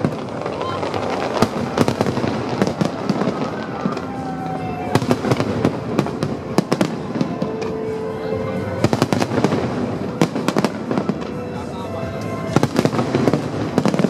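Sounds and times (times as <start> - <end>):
firework bangs: 0.0 - 14.0
fireworks crackling: 0.0 - 14.0.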